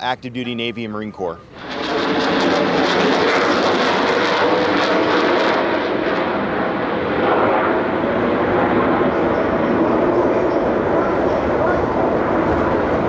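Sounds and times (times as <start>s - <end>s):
aircraft engines overhead: 0.0s - 13.0s.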